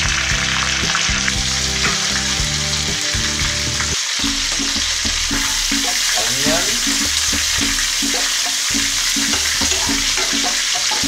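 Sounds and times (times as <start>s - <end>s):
chicken sizzling in hot oil: 0.0s - 11.0s
chillies sizzling in oil: 0.0s - 11.0s.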